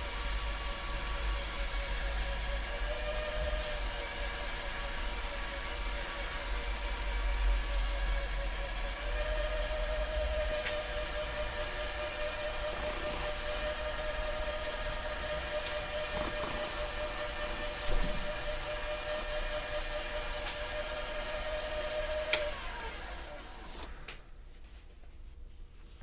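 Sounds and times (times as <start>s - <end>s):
power tool motor whining: 0.0s - 24.1s.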